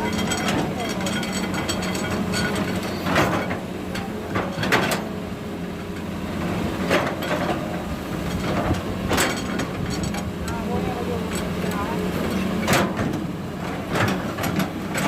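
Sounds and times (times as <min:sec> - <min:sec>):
excavator bucket clanking: 0:00.0 - 0:15.0
excavator diesel engine running: 0:00.0 - 0:15.0.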